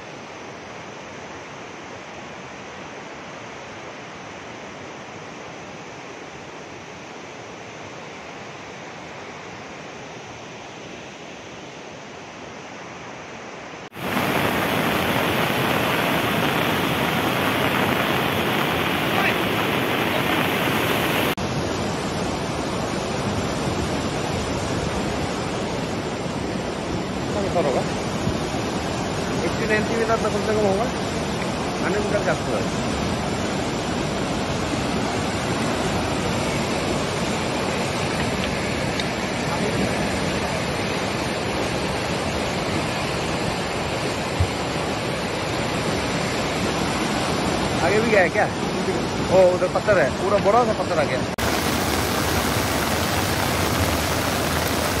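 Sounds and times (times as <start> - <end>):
rushing river torrent: 0.0 - 55.0.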